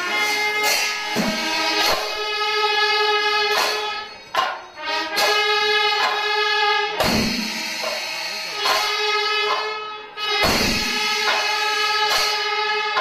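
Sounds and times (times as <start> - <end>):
sharp percussion strikes: 0.0 - 13.0.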